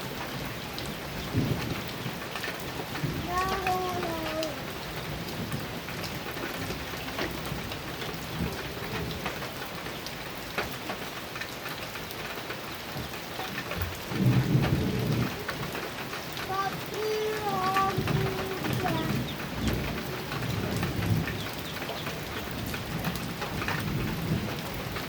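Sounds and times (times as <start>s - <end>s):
low rumble of thunder: 0.0s - 11.1s, 12.9s - 25.0s
heavy rain on metal roof: 0.0s - 25.0s.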